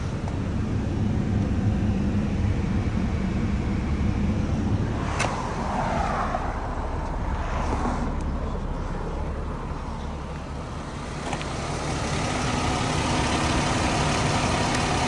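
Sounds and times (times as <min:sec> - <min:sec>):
car air conditioning hum: 0:00.0 - 0:14.9.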